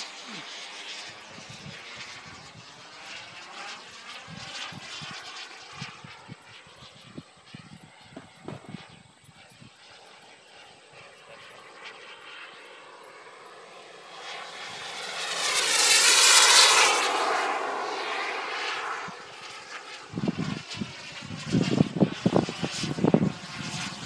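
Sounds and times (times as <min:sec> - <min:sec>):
jet turbine engine passing by: 0:00.0 - 0:24.0.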